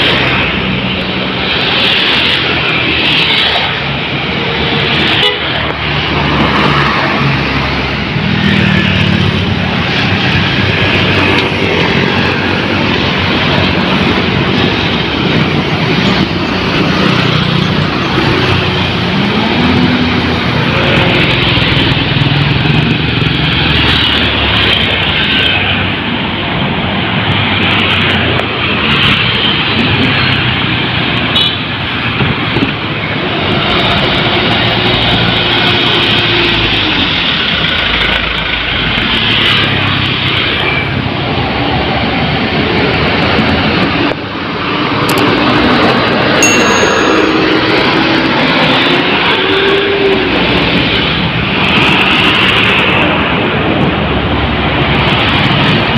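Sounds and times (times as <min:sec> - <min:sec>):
road traffic passing: 0:00.0 - 0:55.9.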